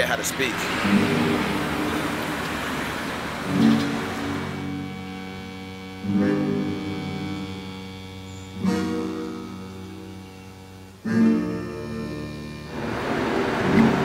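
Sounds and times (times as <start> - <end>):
slow acoustic guitar chords: 0.7 - 14.0.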